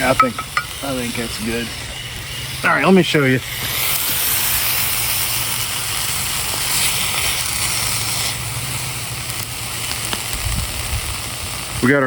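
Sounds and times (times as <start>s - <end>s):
greens sizzling in a pan: 0.0s - 12.0s.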